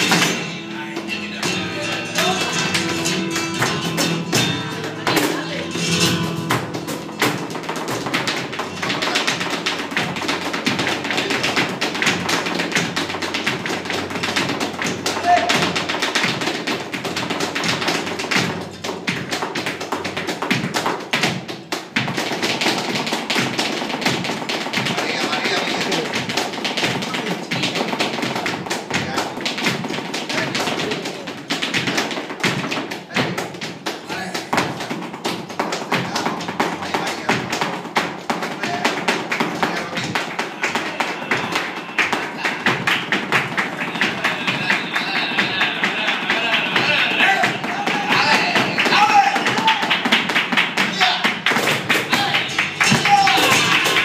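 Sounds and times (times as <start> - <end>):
fast rhythmic hand-clapping: 0.0 - 54.0
footwork taps on wooden stage: 1.0 - 46.0, 46.8 - 54.0.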